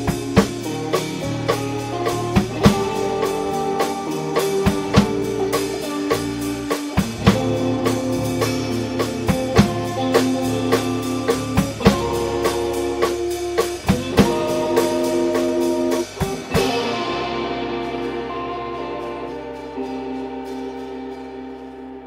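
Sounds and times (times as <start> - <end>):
drum kit steady beat: 0.0 - 22.0
electric bass: 0.0 - 22.0
electric guitar melody: 0.0 - 22.0.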